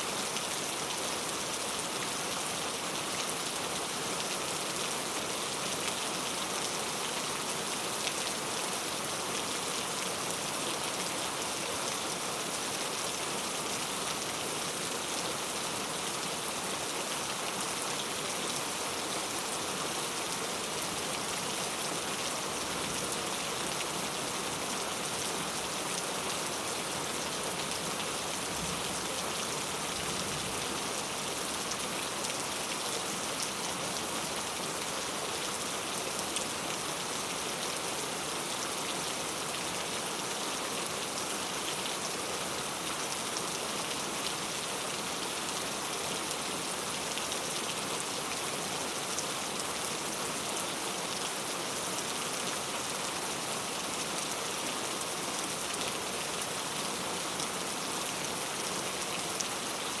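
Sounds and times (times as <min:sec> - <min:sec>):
heavy rain on hard surfaces: 0:00.0 - 1:00.0.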